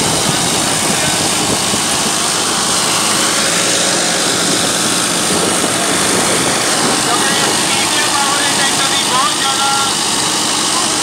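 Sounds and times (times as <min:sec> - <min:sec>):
rotavator blades churning soil: 0:00.0 - 0:11.0
tractor diesel engine under load: 0:00.0 - 0:11.0.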